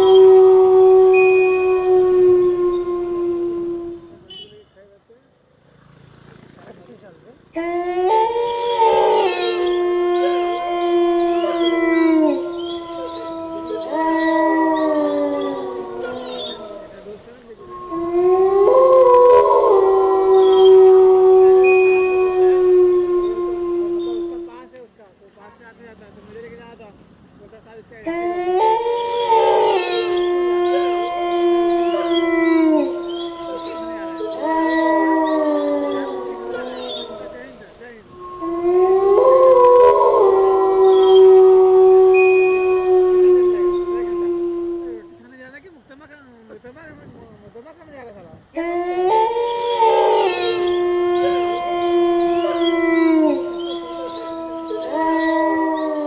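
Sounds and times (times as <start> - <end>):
long overlapping howls: 0.0 - 4.2, 7.6 - 24.8, 28.0 - 45.3, 48.5 - 56.0.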